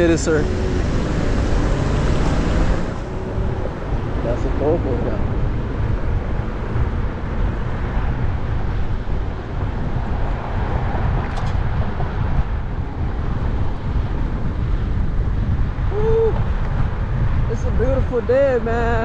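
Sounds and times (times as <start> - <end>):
cars passing: 0.0 - 19.0
road and wind noise: 0.0 - 19.0.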